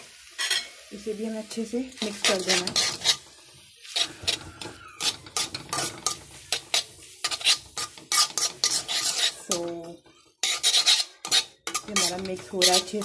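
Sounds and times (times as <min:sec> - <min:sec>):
spatula scraping metal pan: 0:00.2 - 0:00.9, 0:01.6 - 0:13.0.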